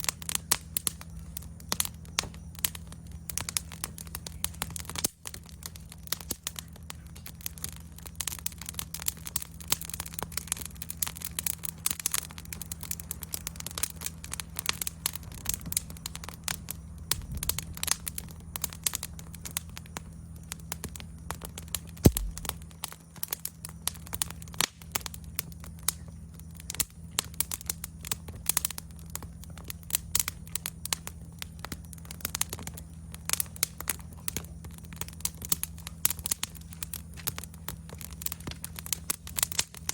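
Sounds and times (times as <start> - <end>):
insects chirring: 0.0 - 39.9
wood fire crackling and popping: 0.0 - 39.9.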